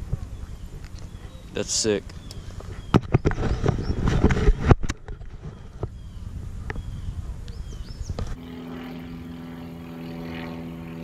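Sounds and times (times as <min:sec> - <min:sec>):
steady droning hum: 0:00.0 - 0:11.0.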